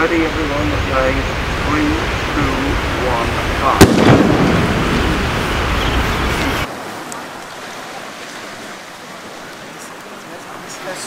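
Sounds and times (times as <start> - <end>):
wind rushing: 0.0 - 9.4
surf washing on beach: 0.0 - 11.0.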